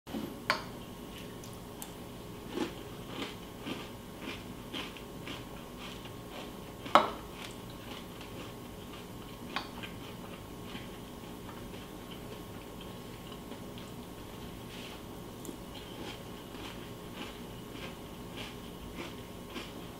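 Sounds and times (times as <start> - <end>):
faint steady hum: 0.1 - 19.9
person chewing crunchy cereal: 1.1 - 19.9.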